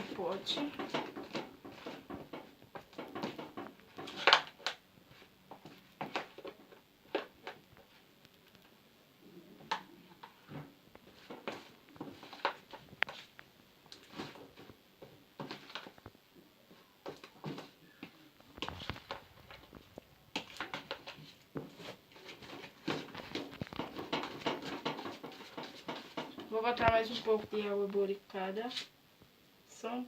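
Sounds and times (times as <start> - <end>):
spoon stirring thick slime: 0.0 - 8.6, 10.1 - 27.6.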